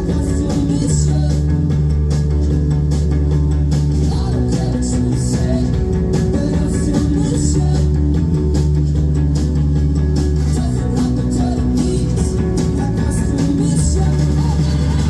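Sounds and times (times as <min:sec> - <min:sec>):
bass line: 0:00.0 - 0:15.0
drums: 0:00.0 - 0:15.0
electric guitar: 0:00.0 - 0:15.0.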